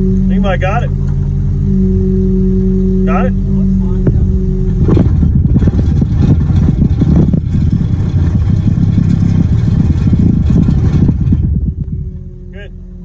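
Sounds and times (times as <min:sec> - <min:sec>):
vibratory pile hammer rattling: 0:00.0 - 0:13.0.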